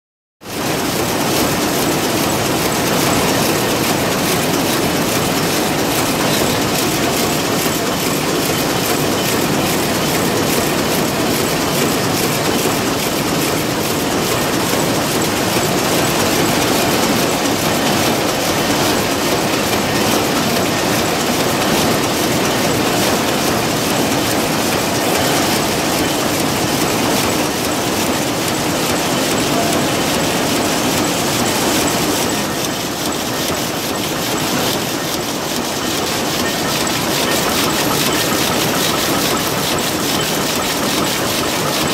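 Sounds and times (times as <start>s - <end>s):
loom rapid mechanical clatter: 0.4s - 41.9s.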